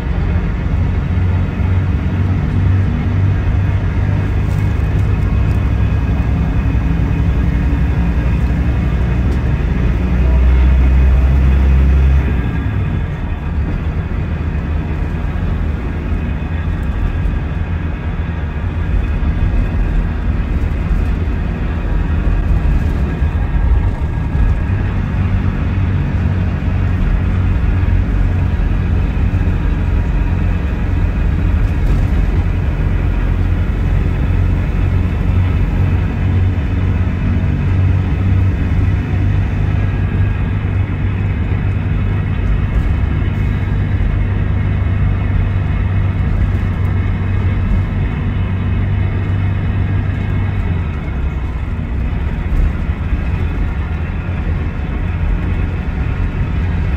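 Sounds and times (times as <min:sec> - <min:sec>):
coach diesel engine running: 0:00.0 - 0:56.9.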